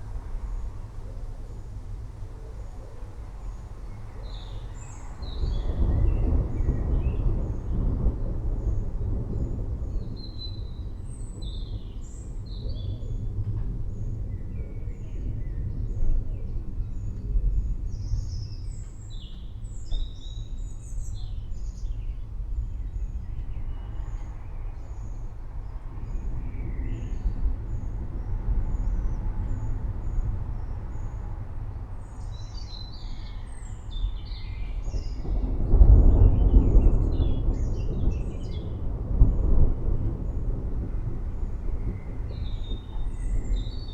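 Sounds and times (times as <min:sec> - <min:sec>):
distant thunder rumbling: 0:00.0 - 0:43.9.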